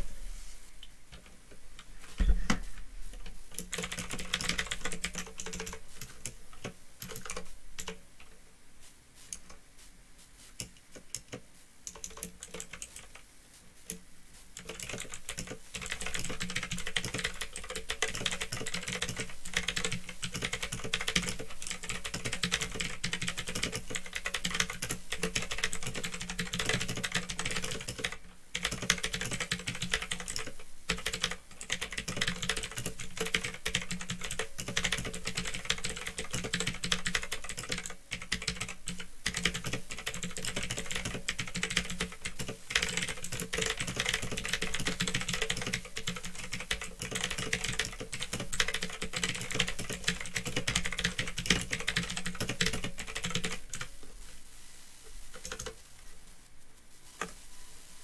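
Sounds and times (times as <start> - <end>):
mechanical keyboard typing: 3.2 - 8.3, 10.6 - 13.2, 14.6 - 53.9, 55.4 - 55.8.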